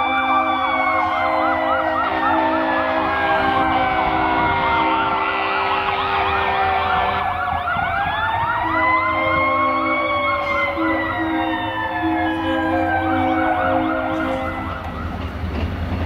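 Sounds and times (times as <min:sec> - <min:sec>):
fire truck sirens yelping: 0:00.0 - 0:15.5
fire truck sirens wailing: 0:00.0 - 0:15.8.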